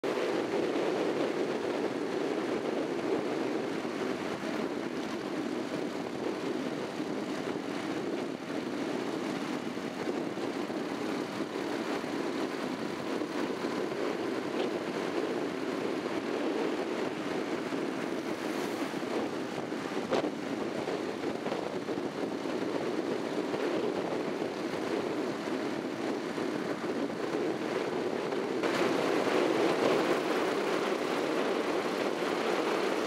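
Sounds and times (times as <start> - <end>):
wind rush: 0.0 - 33.0.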